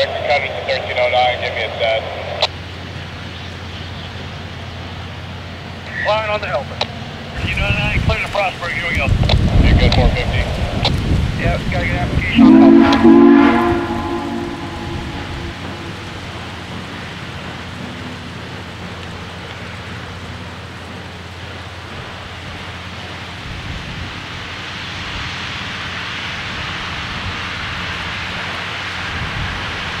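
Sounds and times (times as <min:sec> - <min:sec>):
steam locomotive exhaust: 0:00.0 - 0:30.0.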